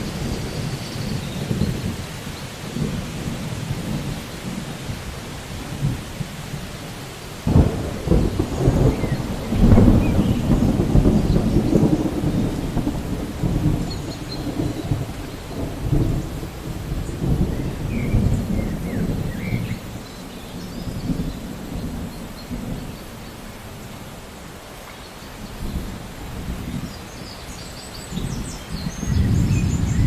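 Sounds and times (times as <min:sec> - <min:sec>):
thunder clap and rumble: 0:00.0 - 0:23.9, 0:28.1 - 0:30.0
steady rain: 0:00.0 - 0:30.0.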